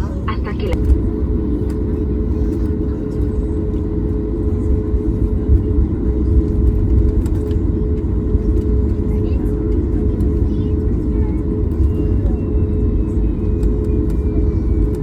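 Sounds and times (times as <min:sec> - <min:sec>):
aircraft cabin rumble: 0:00.0 - 0:15.0
mid-pitched hum: 0:00.0 - 0:15.0.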